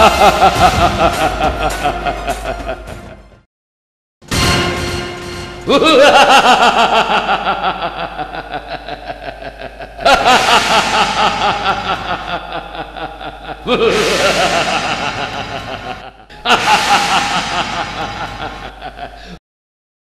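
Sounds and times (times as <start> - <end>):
man laughing theatrically: 0.0 - 3.2, 5.6 - 19.4.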